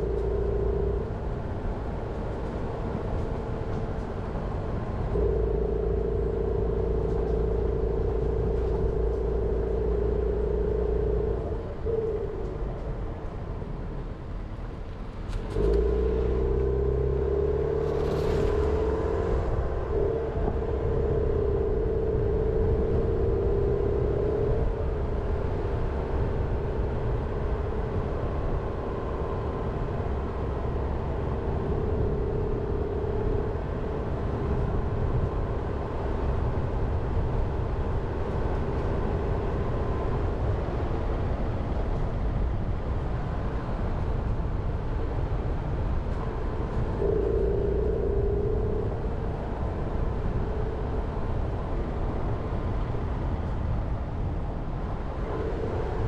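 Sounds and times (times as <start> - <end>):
car engine drone: 0.0 - 56.0.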